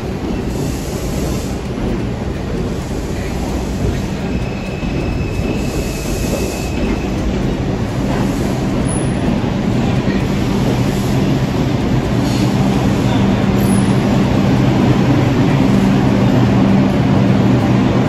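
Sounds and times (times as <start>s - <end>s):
subway train machine hum: 0.0s - 18.0s.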